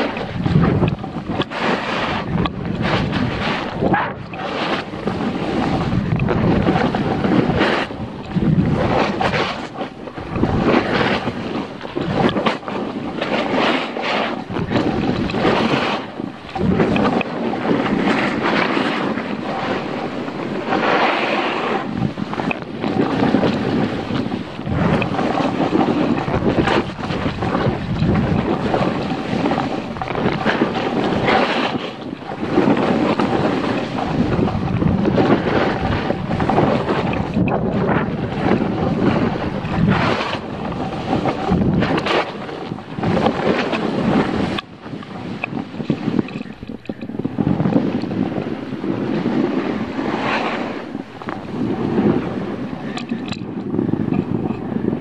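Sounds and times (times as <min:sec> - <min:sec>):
snowboard scraping over snow: 0:00.0 - 0:55.0
wind on microphone: 0:00.0 - 0:55.0.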